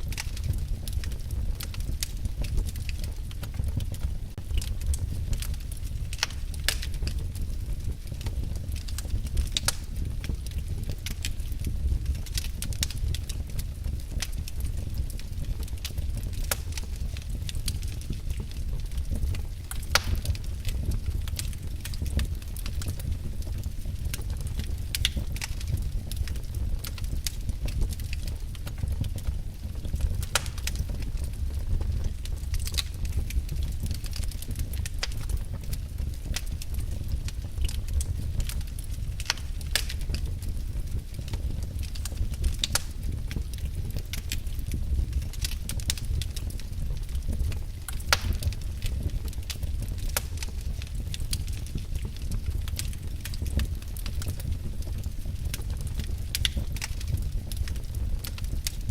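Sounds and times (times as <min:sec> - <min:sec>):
low fire rumble: 0:00.0 - 0:58.9
wood fire crackling and popping: 0:00.0 - 0:58.9.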